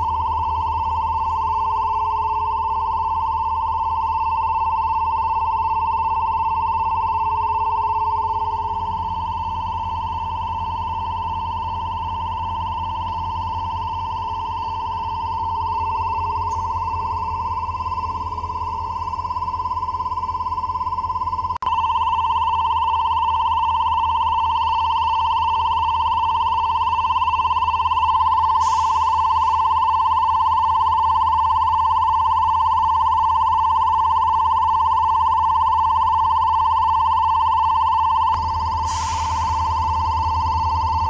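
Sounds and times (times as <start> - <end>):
level crossing warning signal: 0.0 - 41.0.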